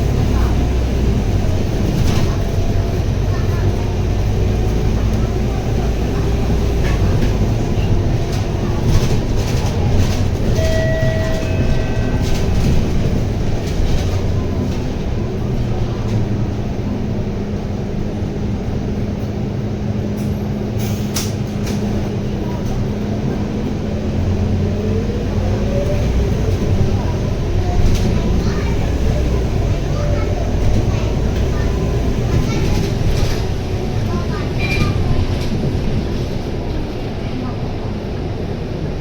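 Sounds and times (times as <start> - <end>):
bus engine drone with whine: 0.0 - 39.0.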